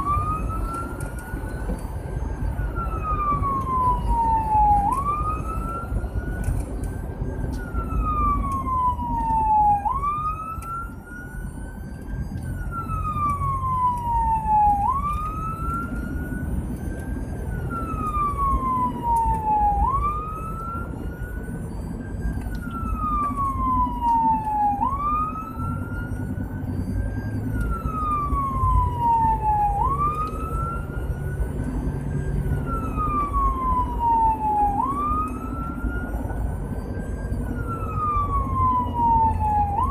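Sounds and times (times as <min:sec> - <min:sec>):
engine and tyres rumbling: 0:00.0 - 0:39.9
siren wailing: 0:00.0 - 0:39.9.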